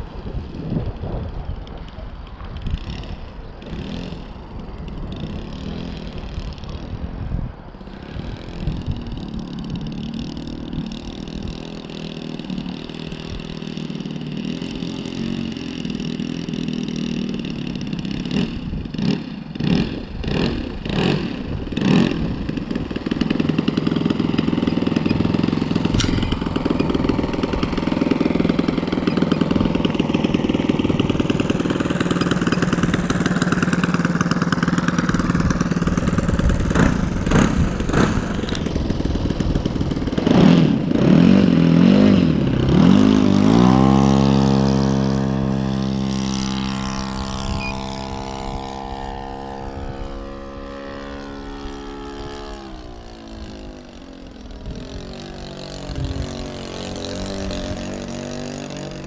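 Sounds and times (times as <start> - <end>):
model plane engine running loud: 0.0 - 59.0.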